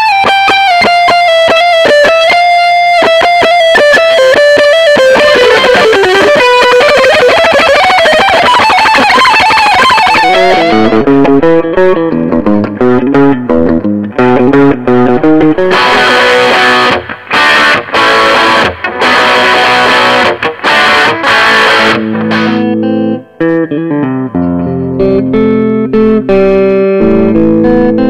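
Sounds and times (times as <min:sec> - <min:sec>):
distorted electric guitar: 0:00.0 - 0:28.0.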